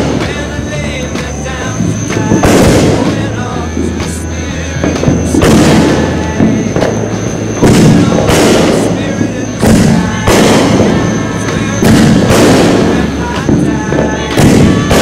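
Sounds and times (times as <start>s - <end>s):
firework shells booming: 0.0s - 15.0s.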